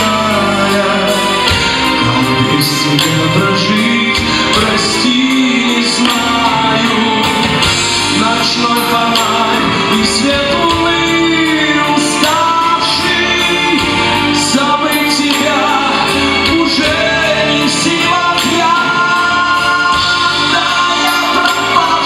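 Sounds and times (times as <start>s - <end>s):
live pop-rock band: 0.0s - 22.0s
person singing: 0.0s - 22.0s.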